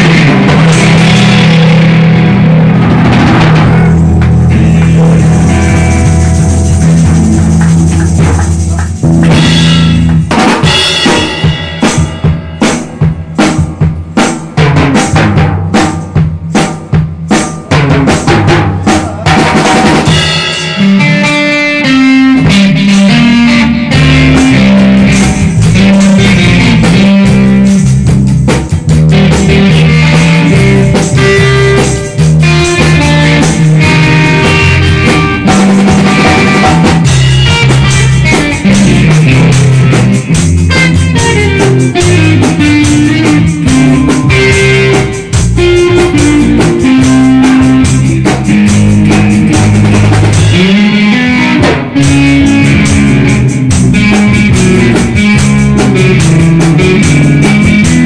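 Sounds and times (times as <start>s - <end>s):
electric guitar melody: 0.0s - 58.0s
live band playing: 0.0s - 58.0s
sharp drum strokes: 0.0s - 58.0s.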